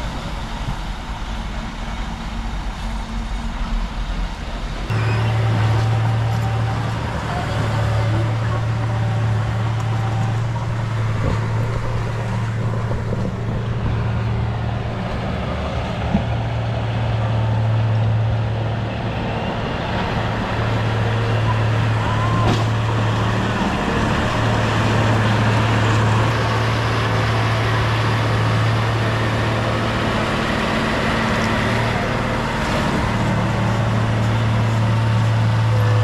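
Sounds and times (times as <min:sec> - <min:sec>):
bulldozer diesel engine droning: 0:00.0 - 0:36.0.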